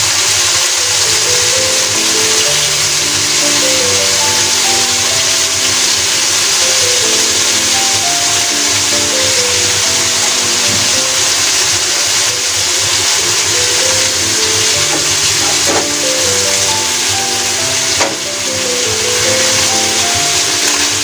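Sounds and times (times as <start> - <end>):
chicken frying in oil: 0.0 - 21.0
background music: 0.6 - 21.0.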